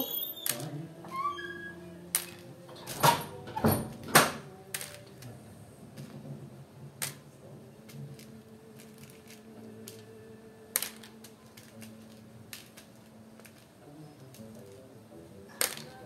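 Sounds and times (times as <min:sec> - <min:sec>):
small hard parts clicking: 0:00.0 - 0:05.4, 0:07.0 - 0:14.9, 0:15.5 - 0:16.0.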